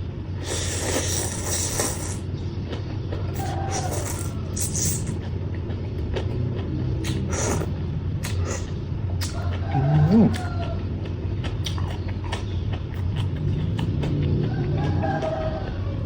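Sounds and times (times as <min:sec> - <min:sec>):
steady low hum: 0:00.0 - 0:16.0
chewing and crunching food: 0:00.4 - 0:16.0.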